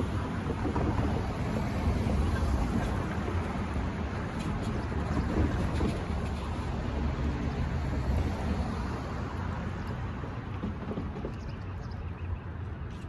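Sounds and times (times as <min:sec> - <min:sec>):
freight train wheels rumbling on rail: 0:00.0 - 0:12.1.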